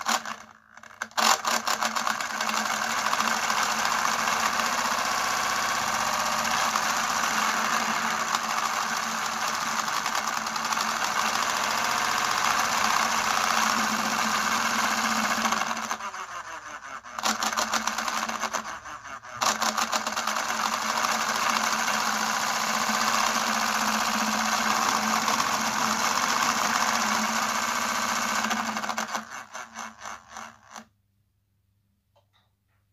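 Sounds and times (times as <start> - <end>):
small electric motor whirring: 0.0 - 30.9.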